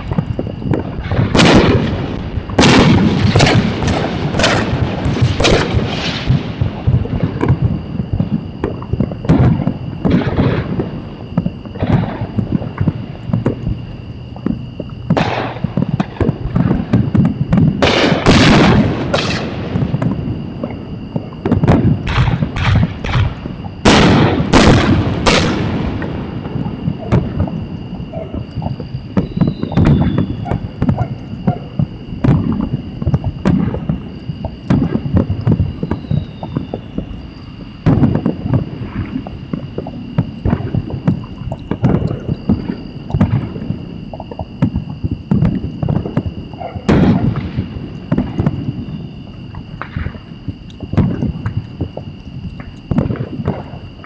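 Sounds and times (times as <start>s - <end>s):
fireworks bangs: 0.0s - 54.0s
fireworks pops and crackles: 0.0s - 54.0s
steady high whine: 0.0s - 54.0s.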